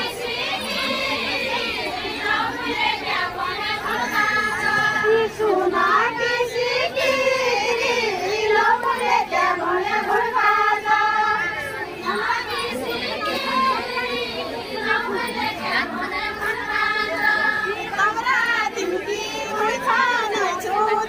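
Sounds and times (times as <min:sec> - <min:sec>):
crowd chatter: 0:00.0 - 0:21.0
women singing together: 0:00.0 - 0:21.0.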